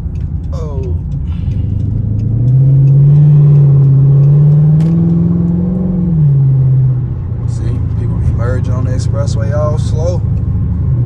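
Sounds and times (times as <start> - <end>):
car exhaust accelerating: 0.0 - 11.0.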